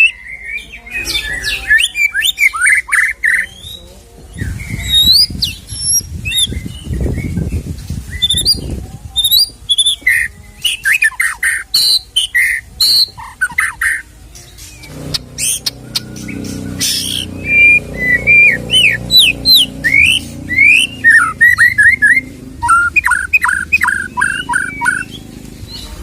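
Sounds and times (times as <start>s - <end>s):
bird singing whistles and chirps: 0.0s - 26.0s.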